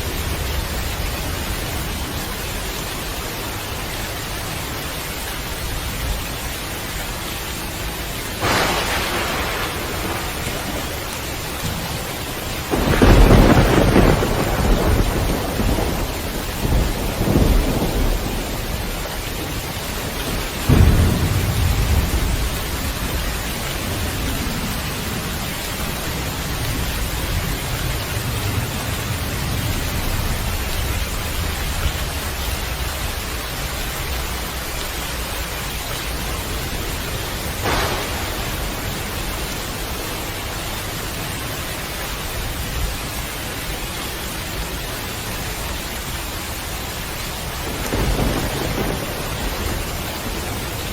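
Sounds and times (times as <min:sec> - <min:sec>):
steady rain: 0:00.0 - 0:50.9
thunder clap and rumble: 0:08.3 - 0:43.5, 0:45.4 - 0:50.9.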